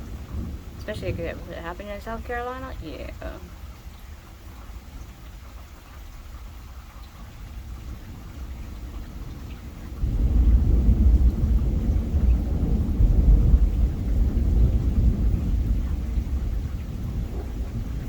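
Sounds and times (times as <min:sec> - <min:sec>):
thunder rumbling: 0:00.0 - 0:03.9, 0:07.4 - 0:18.0
steady rain: 0:00.0 - 0:18.0.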